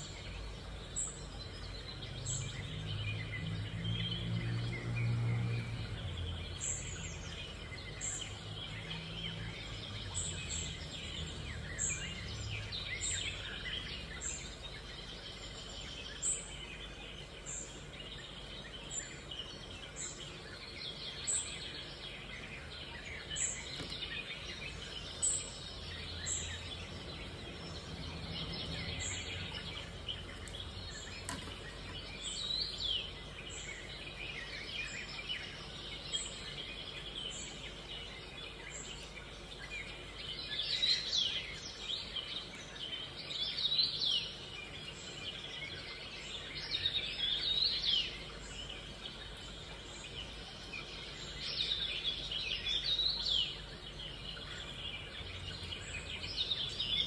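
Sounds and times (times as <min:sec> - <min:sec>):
birds chirping: 0:00.0 - 0:57.0
faint steady hiss: 0:00.0 - 0:57.0.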